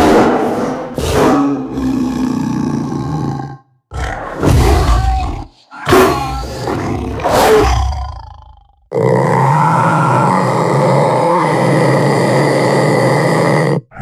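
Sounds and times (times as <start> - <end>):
big cat roaring: 0.4 - 14.0.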